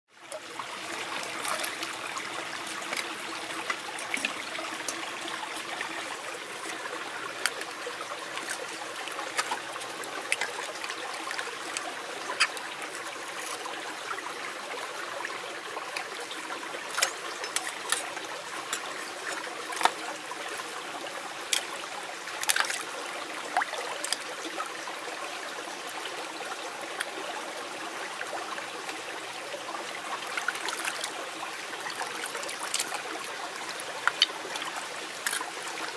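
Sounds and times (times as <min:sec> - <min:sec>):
stream trickling over stones: 0:00.1 - 0:35.9.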